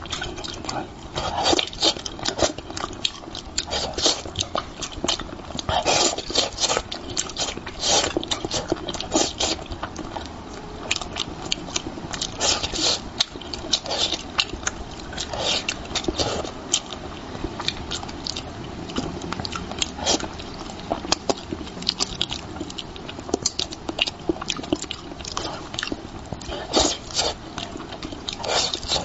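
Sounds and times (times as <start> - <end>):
person chewing and mouth smacks: 0.0 - 29.0.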